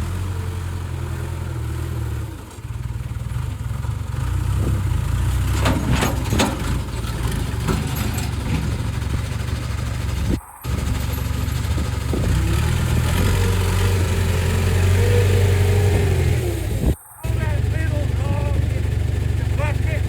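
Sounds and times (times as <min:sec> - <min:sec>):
backhoe engine rumbling: 0:00.0 - 0:20.0.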